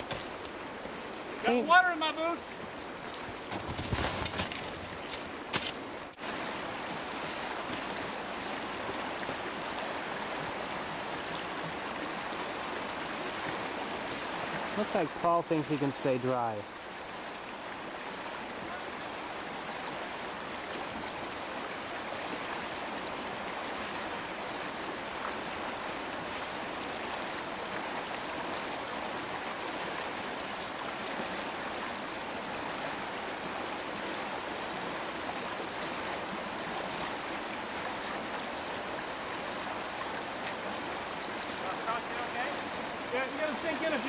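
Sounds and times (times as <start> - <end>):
brook water rushing: 0.0 - 44.0.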